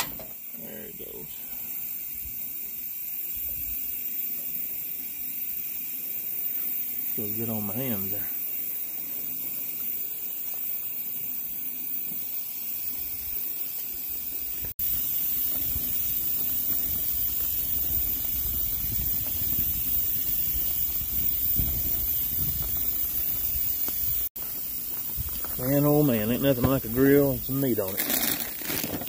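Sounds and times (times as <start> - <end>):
gas grill hissing: 0.0 - 29.0.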